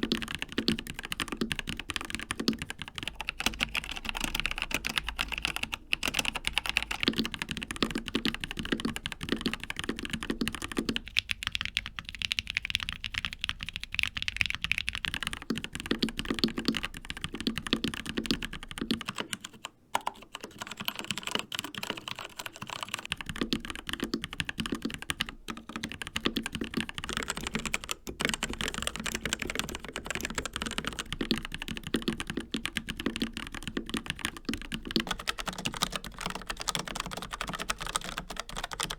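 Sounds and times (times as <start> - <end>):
fast typing on mechanical keyboards: 0.0 - 38.9.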